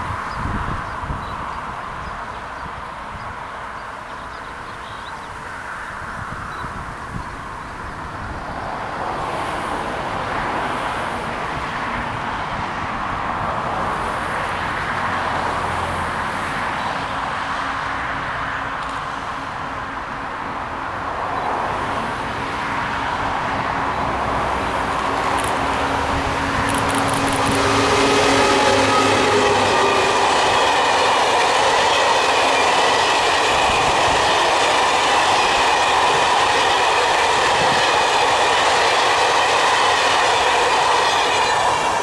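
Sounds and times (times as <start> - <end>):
train rolling noise: 0.0 - 42.0
locomotive hum: 8.0 - 42.0.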